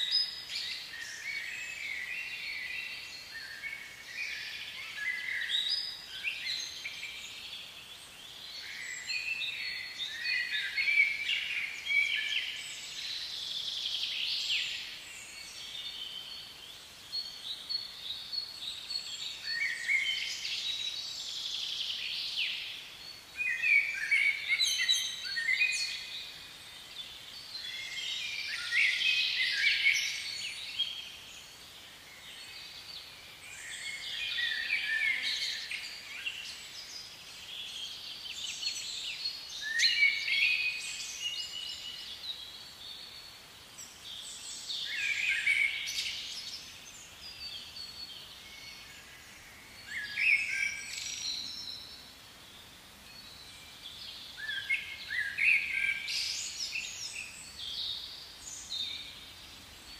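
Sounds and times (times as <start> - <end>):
birdsong chirps and trills: 0.0 - 59.9.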